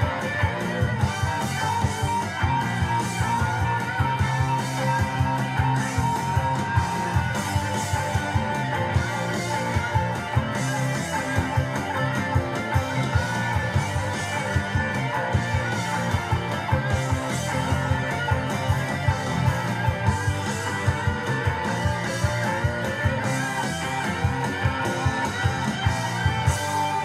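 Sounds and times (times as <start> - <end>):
electric guitar lead: 0.0 - 27.0
fast steady drums: 0.0 - 27.0.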